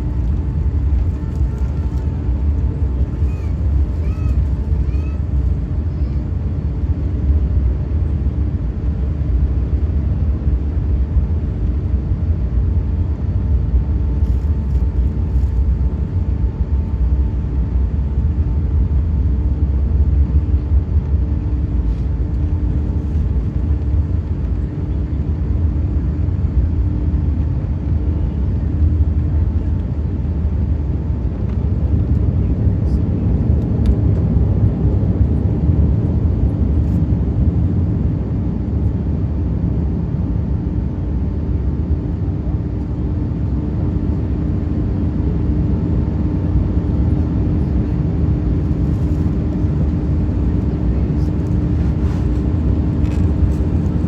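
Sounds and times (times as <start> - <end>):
airplane cabin engine rumble: 0.0 - 54.0
faint steady hum: 0.0 - 54.0.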